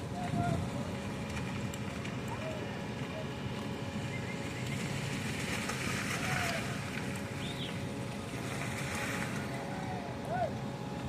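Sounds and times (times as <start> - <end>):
heavy machinery engine rumble: 0.0 - 11.0.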